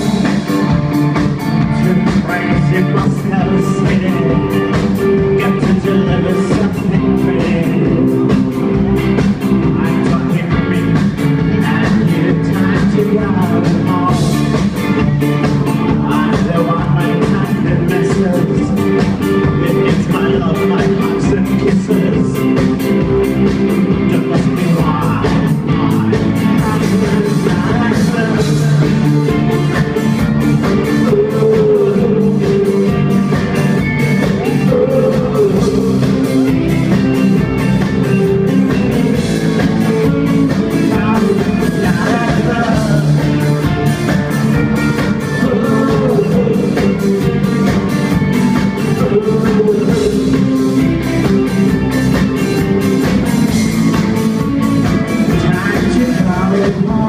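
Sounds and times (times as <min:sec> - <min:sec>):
man singing: 0:00.0 - 0:54.2, 0:55.0 - 0:57.0
live rock band playing: 0:00.0 - 0:57.0.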